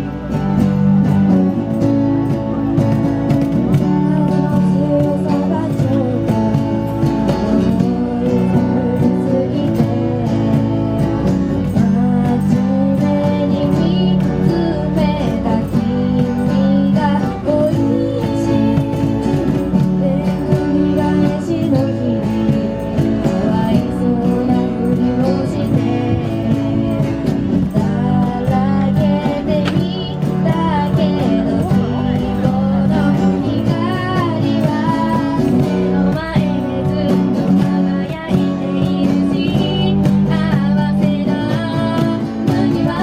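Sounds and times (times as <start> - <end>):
person singing: 0.0 - 43.0
strummed acoustic guitar: 0.0 - 43.0.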